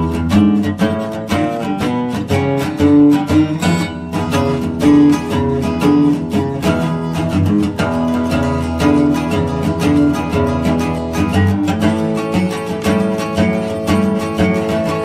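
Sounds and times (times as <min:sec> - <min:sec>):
acoustic guitar strumming and plucking: 0:00.0 - 0:15.0.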